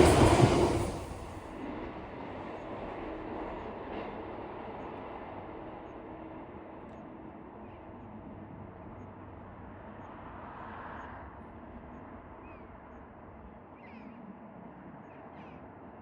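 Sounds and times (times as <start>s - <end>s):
train rumbling past: 0.0s - 13.6s.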